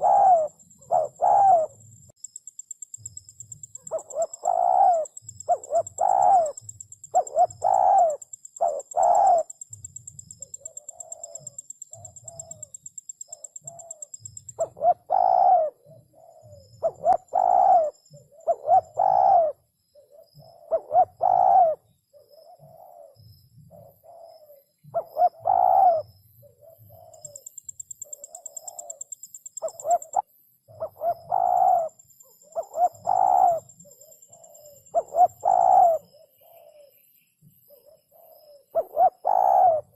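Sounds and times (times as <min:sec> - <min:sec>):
dove cooing: 0:00.0 - 0:01.8, 0:03.6 - 0:37.0, 0:37.7 - 0:39.9.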